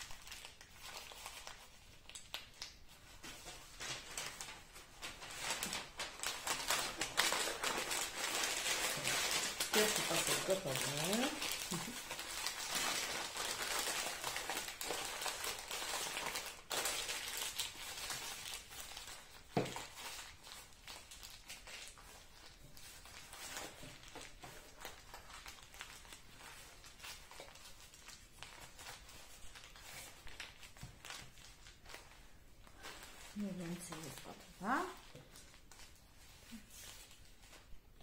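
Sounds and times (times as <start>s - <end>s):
newspaper crumpling: 0.0s - 38.0s.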